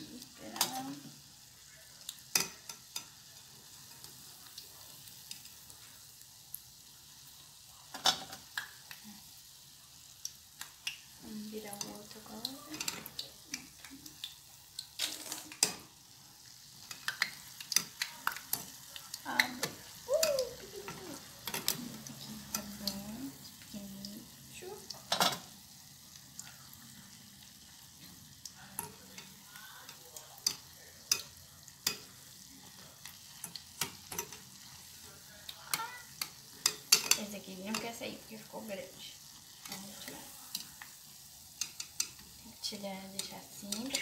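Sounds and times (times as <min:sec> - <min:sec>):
dough deep-frying in hot oil: 0:00.0 - 0:44.0.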